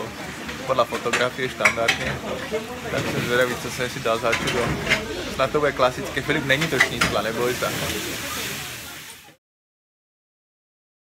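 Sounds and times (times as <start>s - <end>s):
kitchen frying sizzle: 0.1s - 9.4s.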